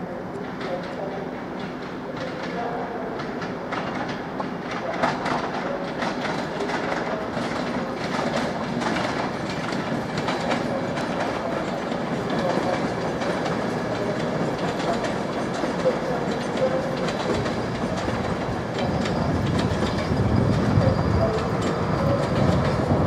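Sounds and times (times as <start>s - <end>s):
train rumble: 0.0s - 23.0s
train wheels clattering: 0.4s - 23.0s.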